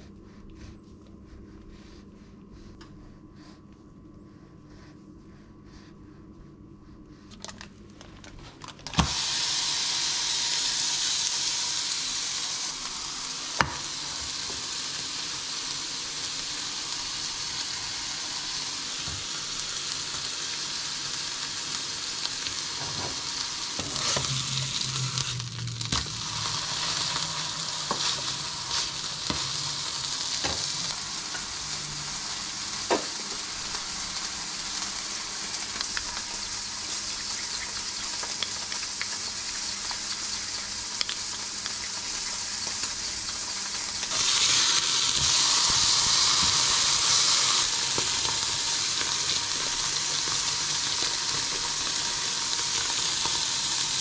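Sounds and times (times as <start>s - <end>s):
food sizzling in hot pan: 9.0s - 54.0s.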